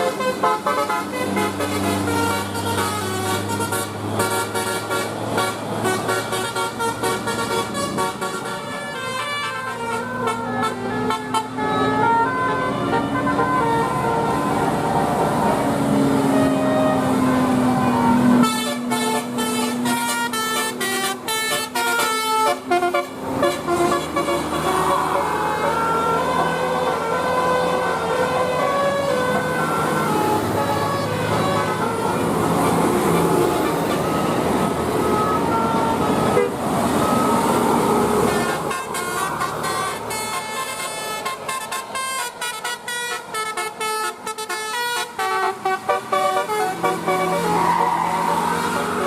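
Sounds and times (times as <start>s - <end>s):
bus horn playing a tune: 0.0s - 49.0s
dense traffic noise: 0.0s - 49.0s.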